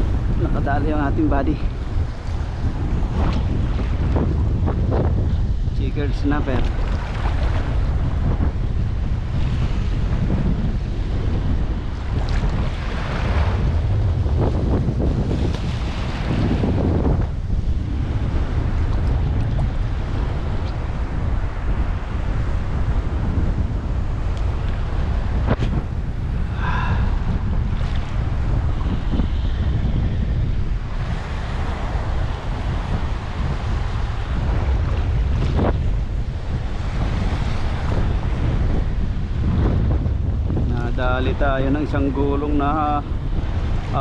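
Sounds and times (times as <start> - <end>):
surf washing and breaking: 0.0 - 44.0
wind buffeting microphone: 0.0 - 44.0.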